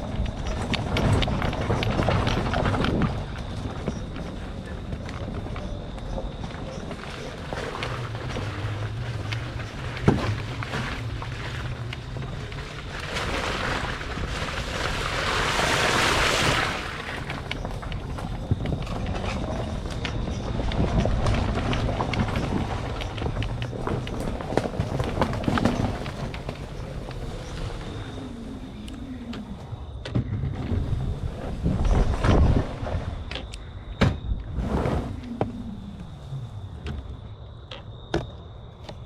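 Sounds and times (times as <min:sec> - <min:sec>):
vehicle rumble on rough trail: 0:00.0 - 0:39.0.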